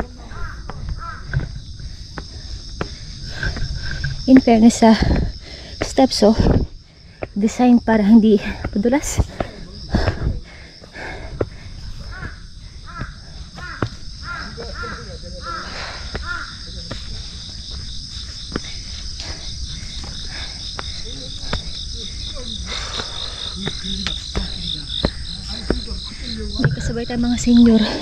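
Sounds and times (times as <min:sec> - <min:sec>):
footsteps on stone steps: 0:00.0 - 0:28.0
high insect chorus pulsing: 0:00.0 - 0:28.0.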